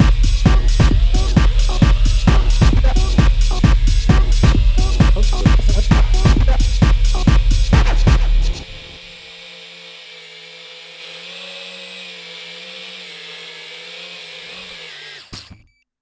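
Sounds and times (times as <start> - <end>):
motor clicks: 0.0 - 15.7
quadcopter motors whining: 0.0 - 15.7.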